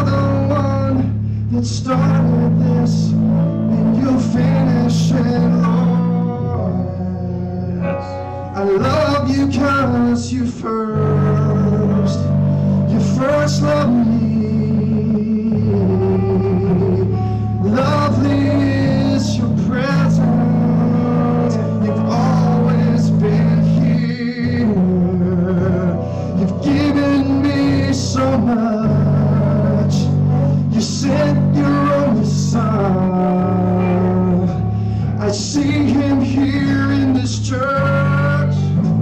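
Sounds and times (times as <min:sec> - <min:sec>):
held keyboard chords: 0:00.0 - 0:39.0
low bass notes: 0:00.0 - 0:39.0.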